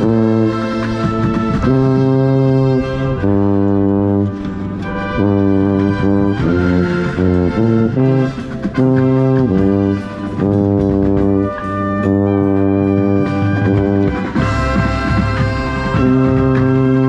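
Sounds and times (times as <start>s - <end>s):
brass playing held chords: 0.0s - 17.0s.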